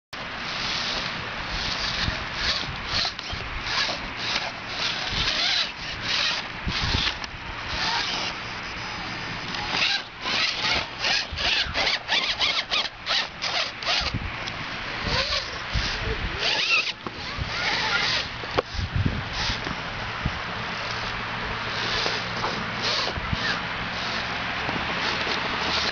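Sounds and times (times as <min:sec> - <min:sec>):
small electric motor whirring: 0:00.5 - 0:14.2, 0:15.0 - 0:19.7, 0:20.8 - 0:24.4.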